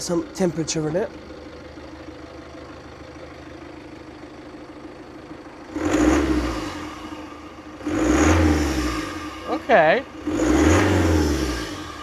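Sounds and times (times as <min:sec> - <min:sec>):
diesel engine idling and revving: 0:00.0 - 0:12.0.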